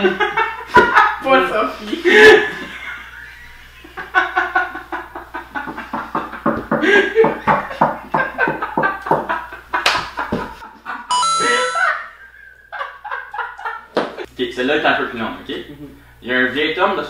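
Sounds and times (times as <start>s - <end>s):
men laughing: 0.0s - 14.3s.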